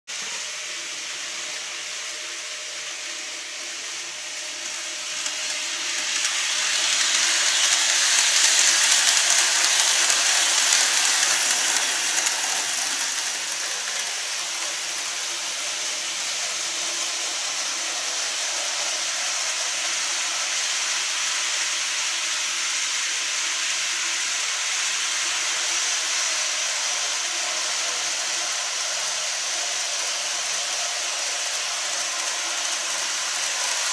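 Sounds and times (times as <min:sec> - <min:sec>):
model train hissing rumble: 0:00.1 - 0:33.9.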